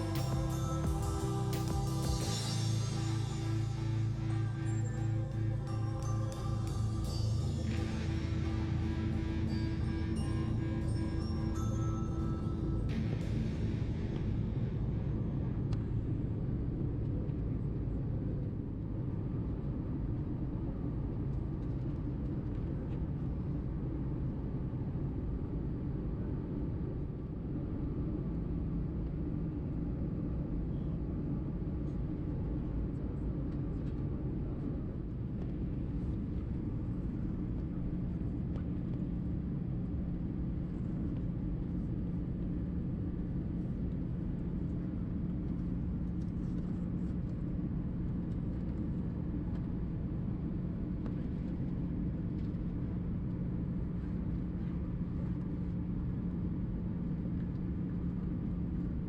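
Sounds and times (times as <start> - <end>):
jet engine and airflow rumble: 0.0 - 59.0
low steady hum: 0.0 - 59.0.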